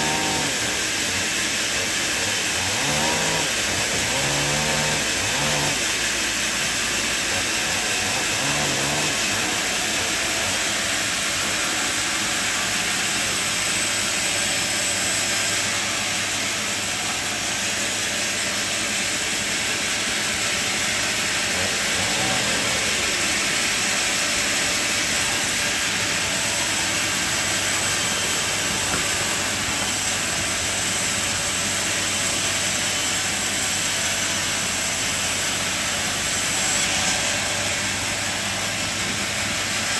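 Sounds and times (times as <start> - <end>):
high hiss: 0.0 - 39.9
sawmill machinery running: 0.0 - 39.9.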